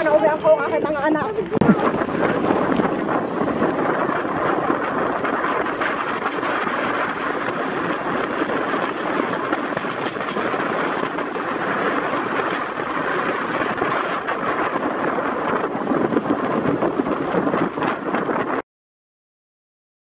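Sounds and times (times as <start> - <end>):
boat engine droning: 0.0 - 17.3
water rushing: 0.0 - 18.6
wind: 0.0 - 18.6.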